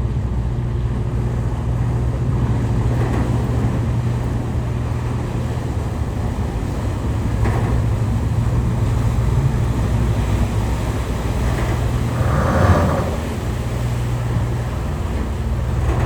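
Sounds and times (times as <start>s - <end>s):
ferry engine droning: 0.0s - 16.0s
wind noise on microphone: 0.0s - 16.0s
rushing water: 0.6s - 16.0s.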